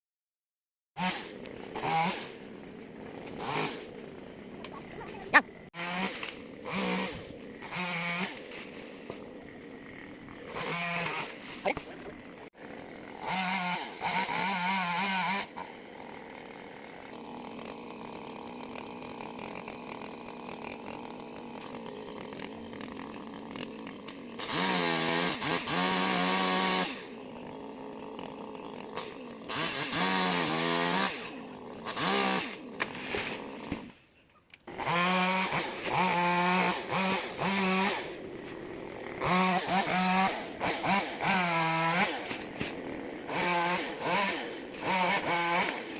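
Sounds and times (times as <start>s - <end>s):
chainsaw revving and cutting wood: 1.0s - 45.9s.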